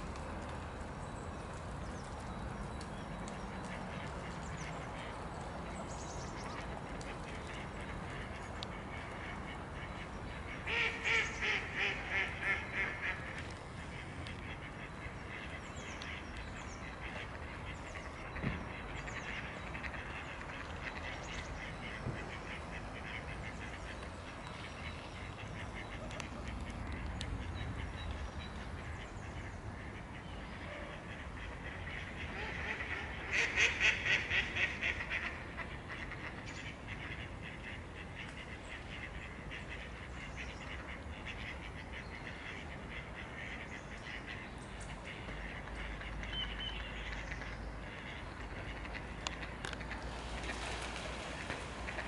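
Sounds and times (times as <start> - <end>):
steady outdoor hiss: 0.0 - 52.0.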